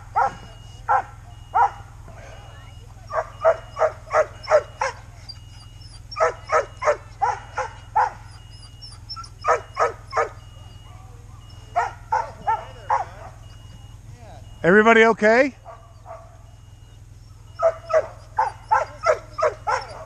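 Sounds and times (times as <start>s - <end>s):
sled dogs barking: 0.0s - 20.0s.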